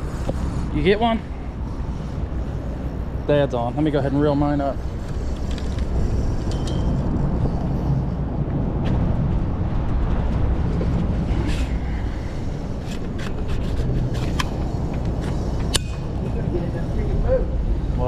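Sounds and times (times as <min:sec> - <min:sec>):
low engine-like rumble: 0:00.0 - 0:18.0.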